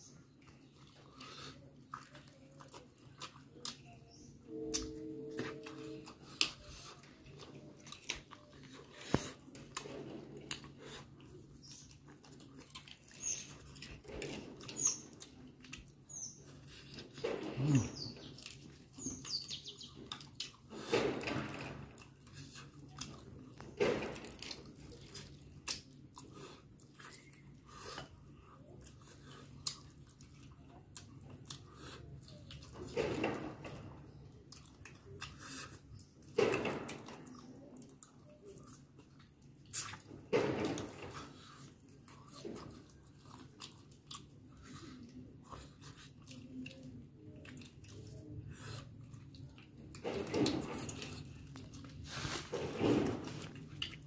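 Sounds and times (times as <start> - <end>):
person chewing wetly: 0.0 - 54.0.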